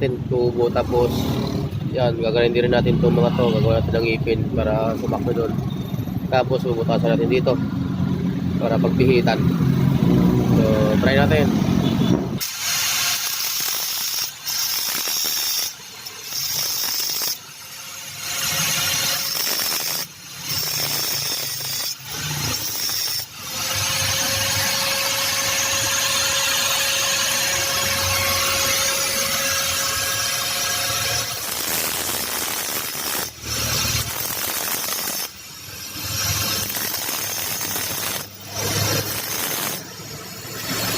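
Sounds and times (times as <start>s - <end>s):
power tool cutting metal pipe: 0.0s - 5.6s, 10.4s - 11.5s, 12.4s - 40.9s.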